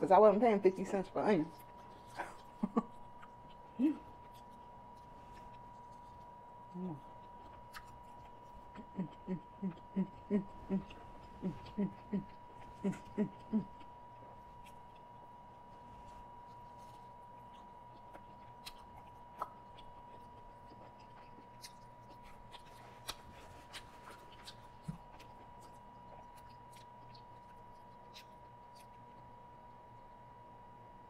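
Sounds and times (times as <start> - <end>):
faint chewing: 0.8 - 30.3.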